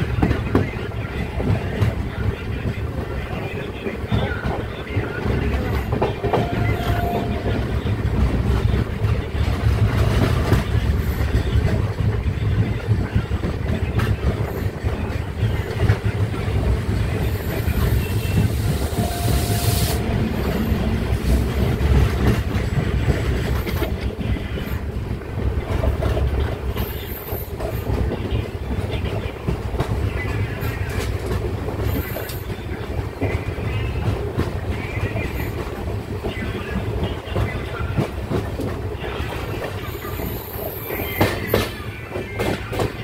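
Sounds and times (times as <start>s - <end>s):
train wheels clickety-clack: 0.0s - 43.0s.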